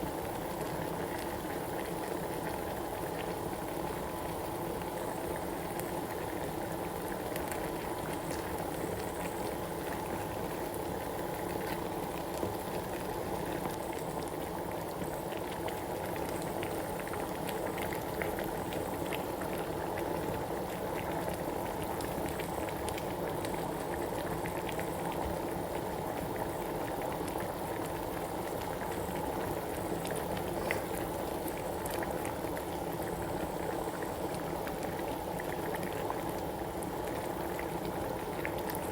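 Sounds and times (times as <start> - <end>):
soup bubbling in a pot: 0.0 - 38.9.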